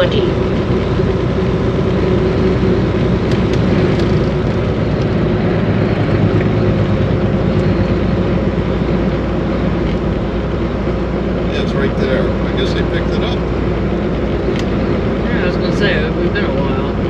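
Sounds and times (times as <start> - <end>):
truck cab engine and road drone: 0.0 - 17.0.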